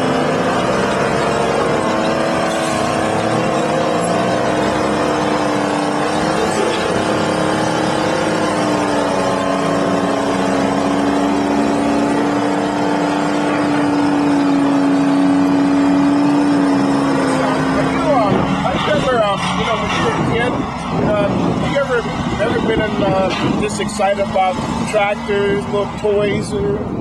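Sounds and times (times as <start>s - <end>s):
diesel engines running under load: 0.0s - 27.0s.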